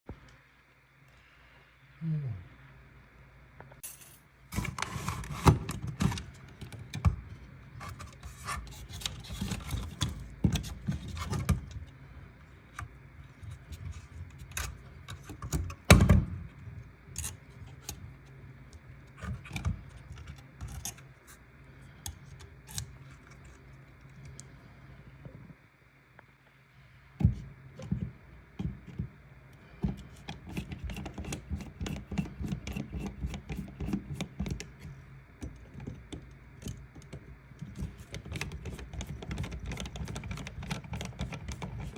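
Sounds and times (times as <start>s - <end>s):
steady low hum: 0.1s - 41.9s.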